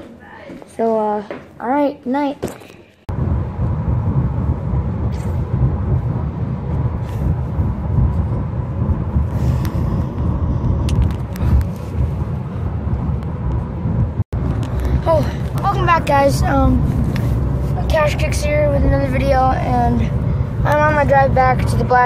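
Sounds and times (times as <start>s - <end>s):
car cabin road rumble: 3.1s - 22.0s.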